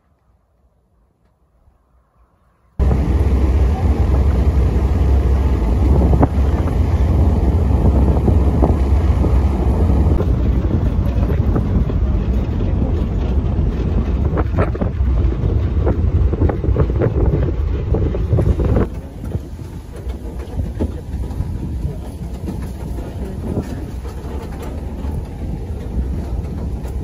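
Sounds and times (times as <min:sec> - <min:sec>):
pickup truck rumbling on dirt track: 0:02.8 - 0:27.0
wind buffeting microphone: 0:02.8 - 0:27.0.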